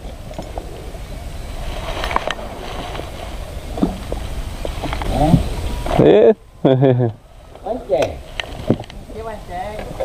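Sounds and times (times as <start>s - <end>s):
low wind rumble on microphone: 0.0s - 10.0s.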